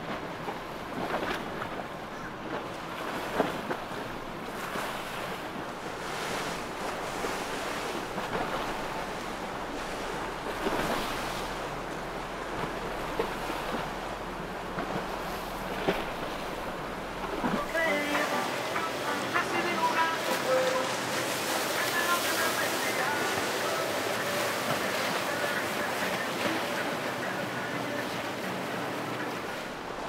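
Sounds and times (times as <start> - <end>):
boat noise: 0.0 - 30.0
water washing: 0.0 - 30.0.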